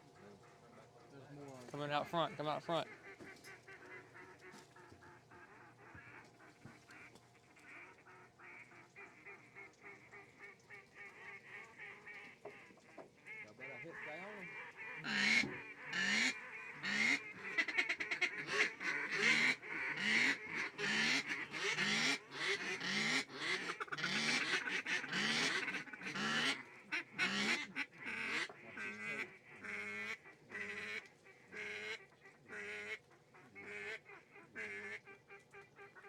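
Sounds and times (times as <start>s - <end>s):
ducks quacking and honking: 1.8s - 36.0s.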